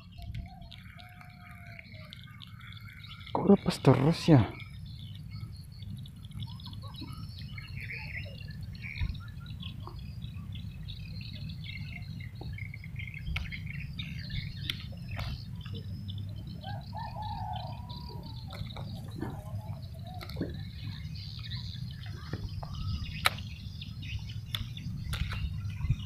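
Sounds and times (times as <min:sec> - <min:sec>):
birds chirping and calling: 0:00.0 - 0:26.0
steady low rumble: 0:04.5 - 0:26.0.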